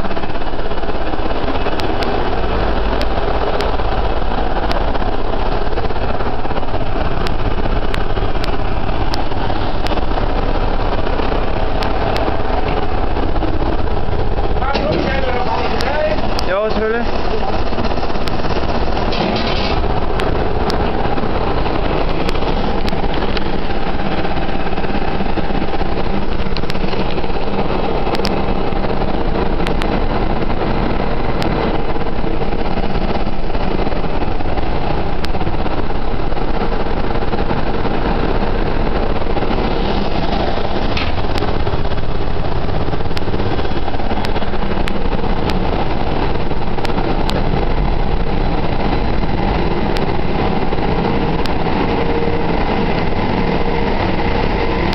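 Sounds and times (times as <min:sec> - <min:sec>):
engine room machinery running: 0:00.0 - 0:54.9
steady hum: 0:00.0 - 0:54.9.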